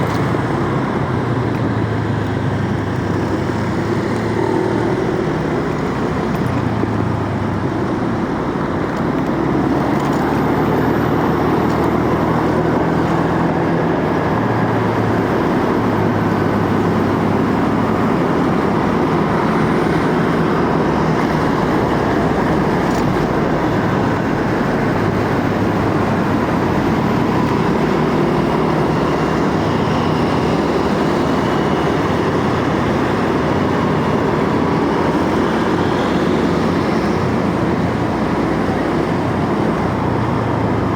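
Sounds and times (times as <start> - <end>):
motorcycle engine hum: 0.0 - 40.9.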